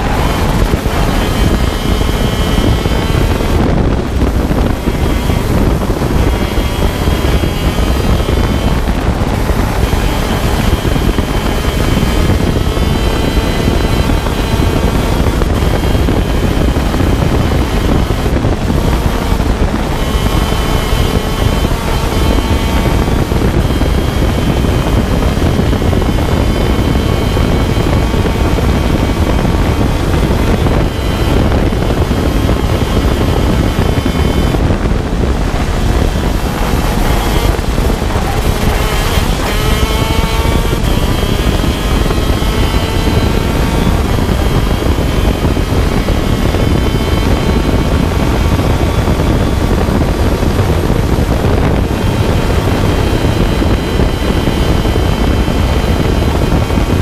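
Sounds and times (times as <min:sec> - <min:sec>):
kart engine whining: 0:00.0 - 0:57.0
wind on microphone: 0:00.0 - 0:57.0.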